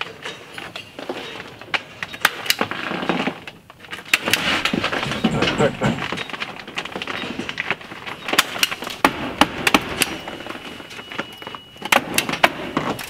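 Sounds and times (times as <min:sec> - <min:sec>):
crinkling house wrap: 0:00.0 - 0:13.0.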